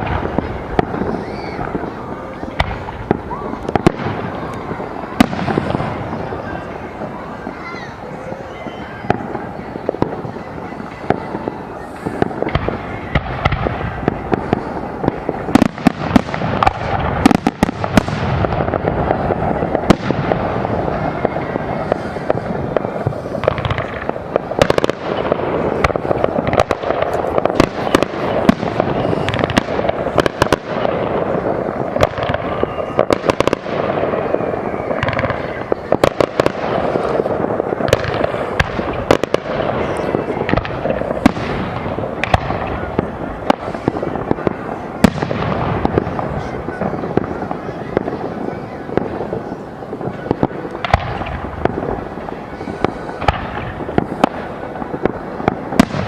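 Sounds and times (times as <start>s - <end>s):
sharp fireworks bangs: 0.0s - 56.0s.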